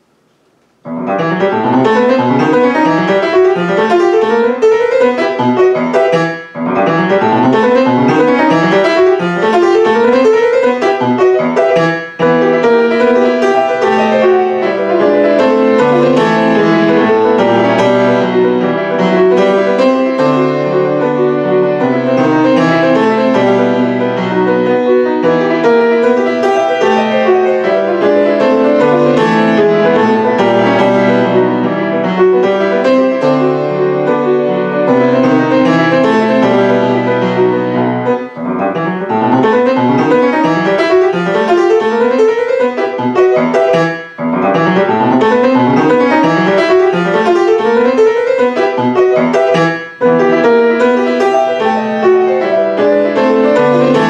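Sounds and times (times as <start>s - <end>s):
grand piano playing fast: 0.8s - 54.0s.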